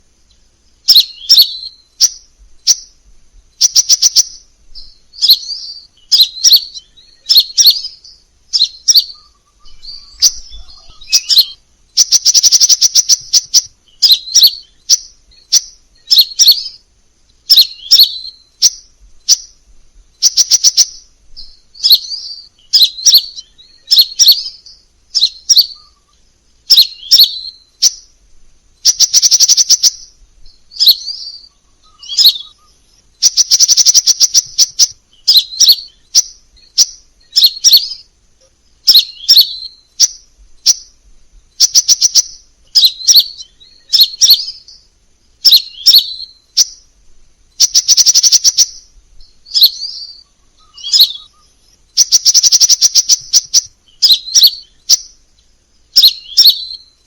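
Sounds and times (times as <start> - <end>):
bird chirping and trilling: 0.0 - 28.2, 28.8 - 57.0.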